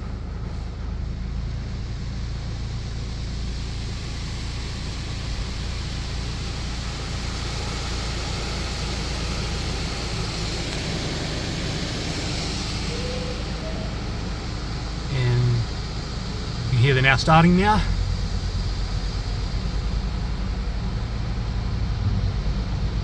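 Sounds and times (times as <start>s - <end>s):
car wash machinery rushing: 0.0s - 23.0s
constant low rumble: 0.0s - 23.0s.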